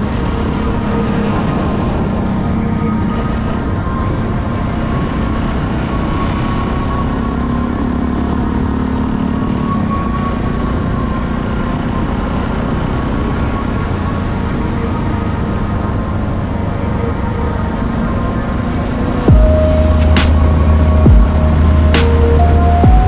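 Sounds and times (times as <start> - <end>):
motorcycle engine droning: 0.0 - 23.0.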